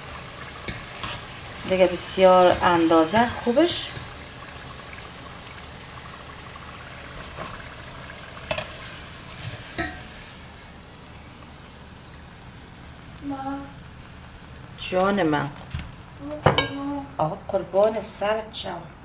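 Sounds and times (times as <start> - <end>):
frying oil sizzling: 0.0 - 18.4.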